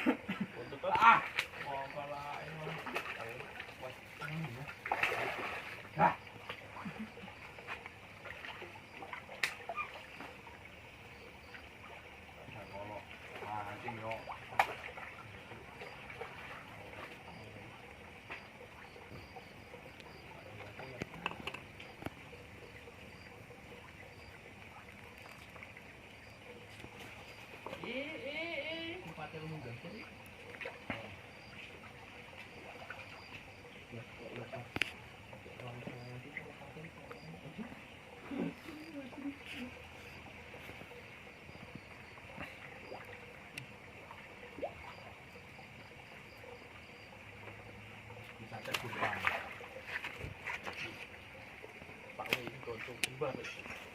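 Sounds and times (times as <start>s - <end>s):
faint trickling water: 0.0s - 53.9s
night insects chirping: 0.0s - 53.9s.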